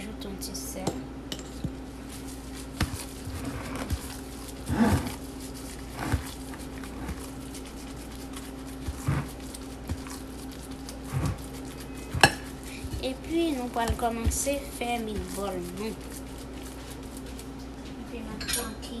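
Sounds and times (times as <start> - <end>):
steady low hum: 0.0 - 19.0
hands squishing meat mixture: 2.1 - 17.6.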